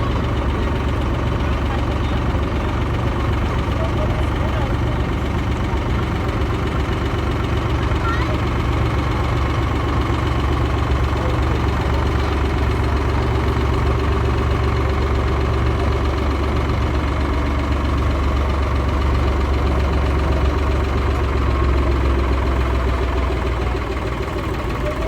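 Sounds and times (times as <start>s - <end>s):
boat engine running steadily: 0.0s - 25.0s.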